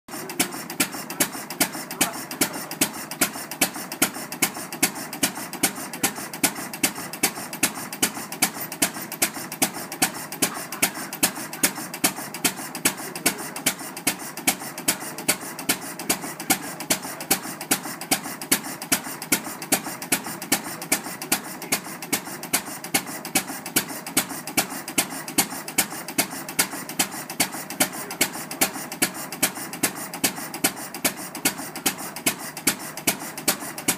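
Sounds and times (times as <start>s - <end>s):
mechanical clatter: 0.1s - 33.9s
sharp exhaust pops: 0.1s - 33.9s
stationary engine running: 0.1s - 33.9s.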